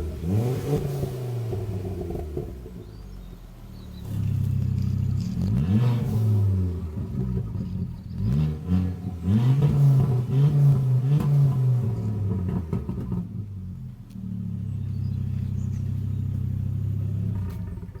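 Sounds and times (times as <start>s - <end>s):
car exhaust revving and idling: 0.0s - 18.0s.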